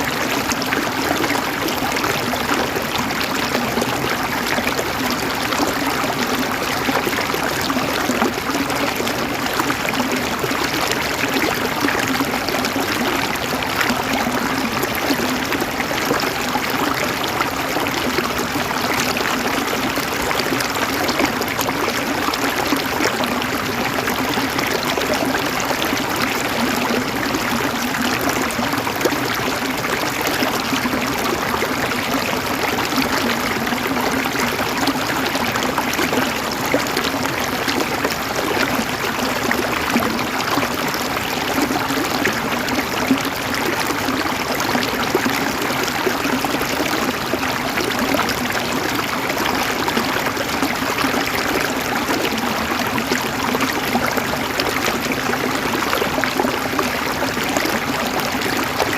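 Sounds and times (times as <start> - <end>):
river water gurgling over rocks: 0.0 - 58.9.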